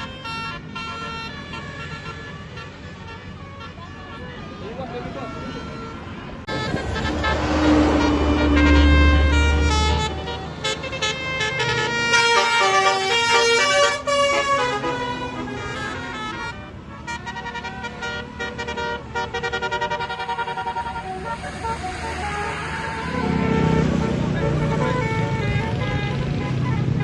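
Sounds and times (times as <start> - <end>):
multi-tone bus horn playing a tune: 0.0 - 27.0.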